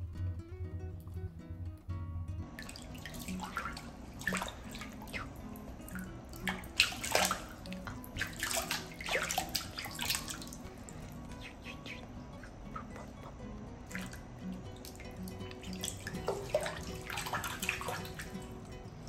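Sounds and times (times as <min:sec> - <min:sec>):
soft background music: 0:00.0 - 0:19.0
water splashing in bathtub: 0:02.4 - 0:19.0.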